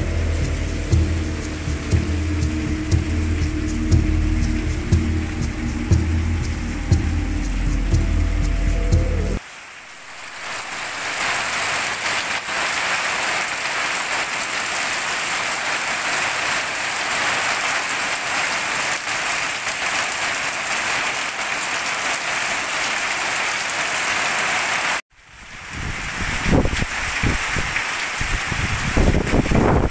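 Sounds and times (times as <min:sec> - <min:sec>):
roof runoff splashing: 0:00.0 - 0:08.6, 0:09.4 - 0:25.0
heavy rain on concrete: 0:00.0 - 0:29.9.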